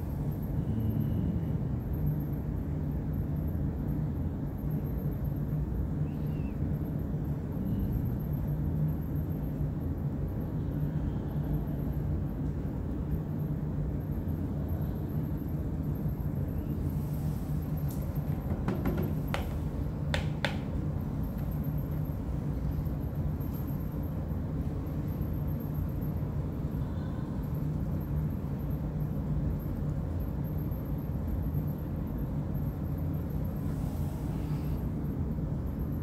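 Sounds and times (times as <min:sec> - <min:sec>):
low background hum and rumble: 0:00.0 - 0:36.0.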